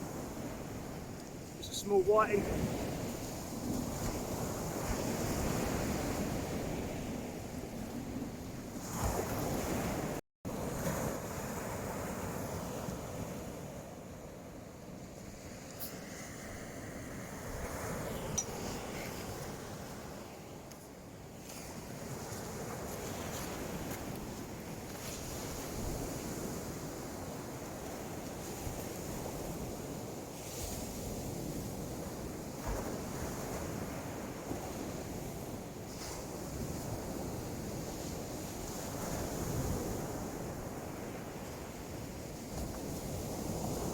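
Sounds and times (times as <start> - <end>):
waves washing on shore: 0.0 - 43.9
wind on microphone: 0.0 - 43.9.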